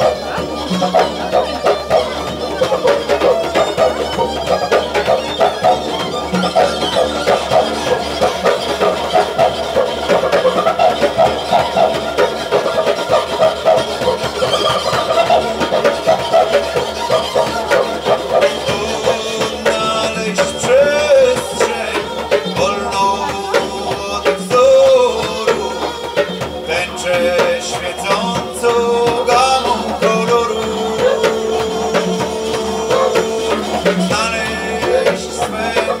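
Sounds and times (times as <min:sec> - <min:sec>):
didgeridoo drone: 0:00.0 - 0:36.0
hand drum beats: 0:00.0 - 0:36.0
wavering melody line: 0:00.0 - 0:36.0.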